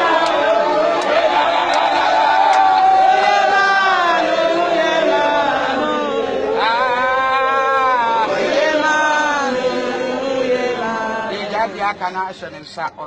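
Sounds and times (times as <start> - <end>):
group of voices chanting: 0.0 - 11.9.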